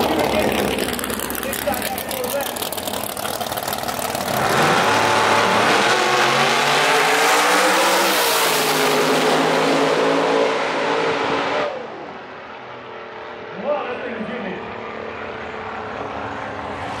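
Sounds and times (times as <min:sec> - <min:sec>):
drag race cars accelerating: 0:00.0 - 0:17.0.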